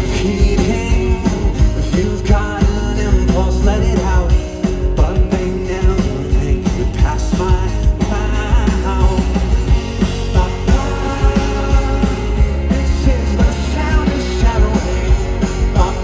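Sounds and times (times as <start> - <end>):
person singing: 0.0 - 16.0
rock band playing: 0.0 - 16.0.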